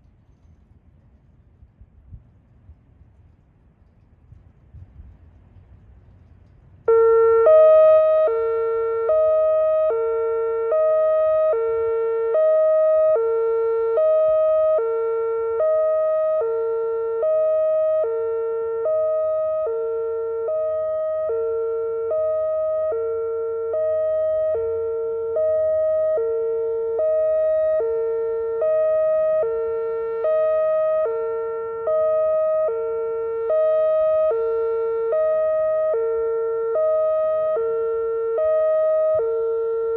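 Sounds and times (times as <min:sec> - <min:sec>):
hi-lo alarm siren: 0:04.4 - 0:39.9.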